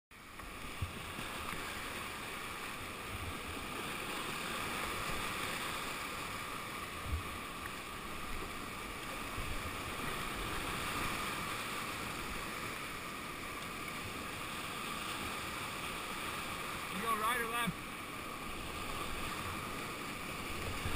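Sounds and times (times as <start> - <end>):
flowing river water: 0.1 - 20.9.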